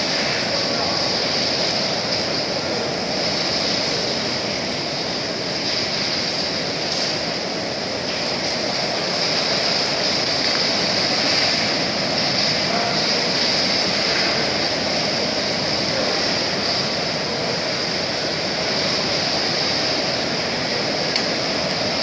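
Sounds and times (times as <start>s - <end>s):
continuous welding hiss: 0.0s - 22.0s.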